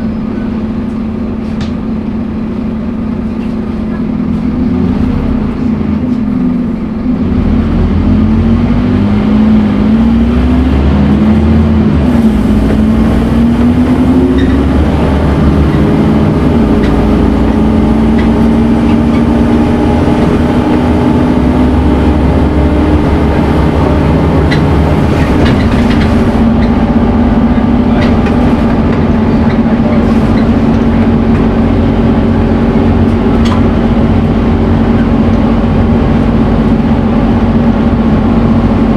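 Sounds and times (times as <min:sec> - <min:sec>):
bus engine pulling under load: 0:00.0 - 0:38.9.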